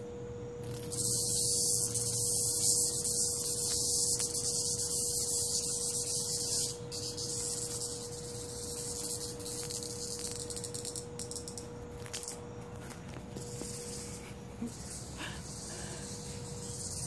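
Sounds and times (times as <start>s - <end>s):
steady low hum: 0.0s - 17.0s
cicada buzzing: 0.6s - 17.0s.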